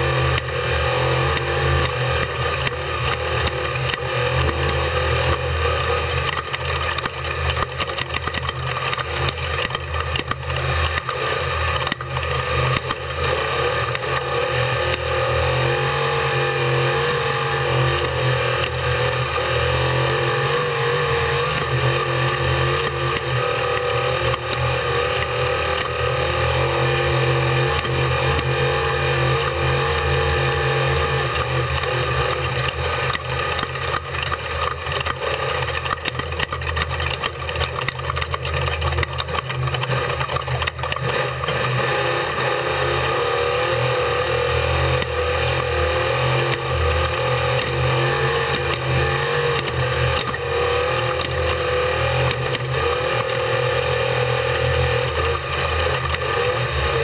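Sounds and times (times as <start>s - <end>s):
race truck engine running hard: 0.0s - 57.0s.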